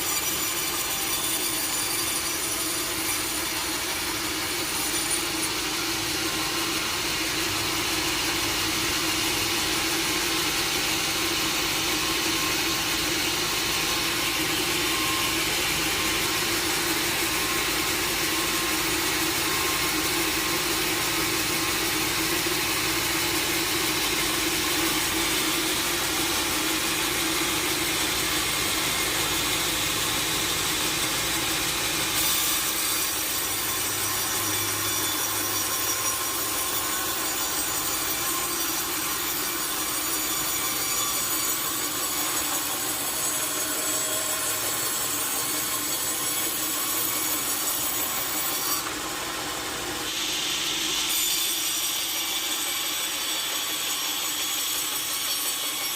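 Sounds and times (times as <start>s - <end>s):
sawmill saw cutting timber: 0.0s - 55.9s.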